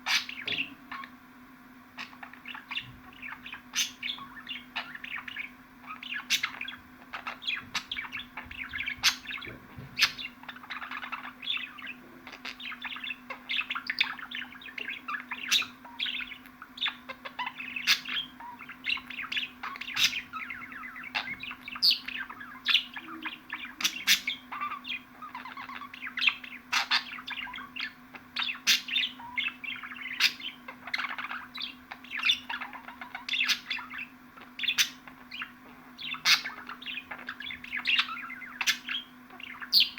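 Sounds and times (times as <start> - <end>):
budgerigars chattering: 0.0 - 1.2, 2.0 - 39.9
steady low hum: 0.0 - 39.9.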